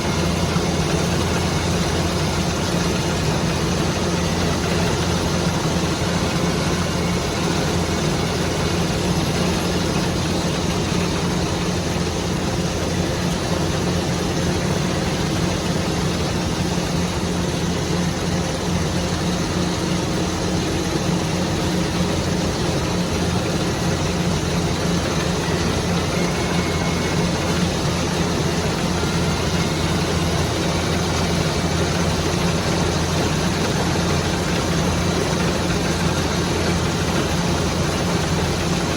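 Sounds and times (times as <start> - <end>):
harvester engine running: 0.0 - 38.9
working machinery noise: 0.0 - 38.9.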